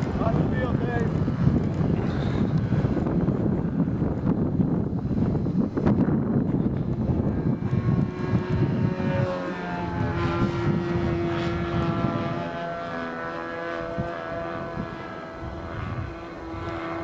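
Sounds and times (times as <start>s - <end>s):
model airplane engine buzzing: 0.0s - 17.0s
wind noise: 0.0s - 17.0s.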